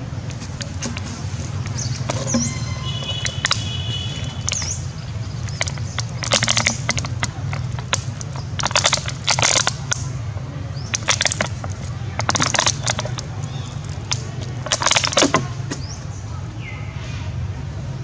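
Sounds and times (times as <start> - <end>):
plastic bottle crinkling: 0.2 - 10.1, 10.9 - 15.8.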